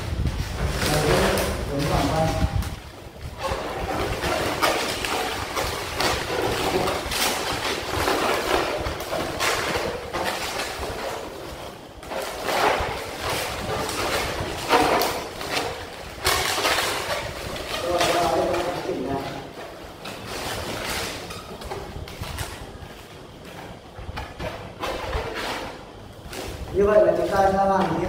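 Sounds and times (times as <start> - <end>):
latex balloons rubbing: 0.0 - 28.0.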